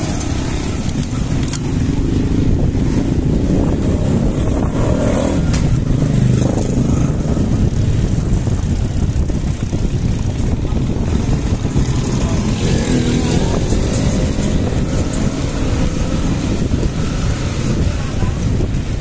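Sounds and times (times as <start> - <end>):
motorcycle engine: 0.0 - 19.0
wind and tyre rumble: 0.0 - 19.0.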